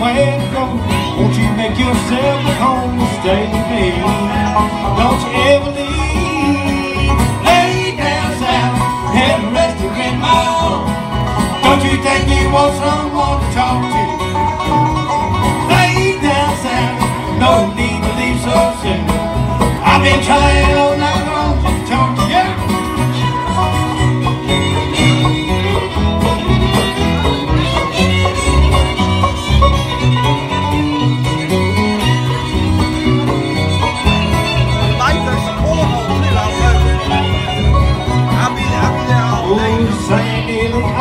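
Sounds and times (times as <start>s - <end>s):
acoustic guitars picking and strumming: 0.0s - 41.0s
fiddle: 0.0s - 41.0s
steady bass line: 0.0s - 41.0s.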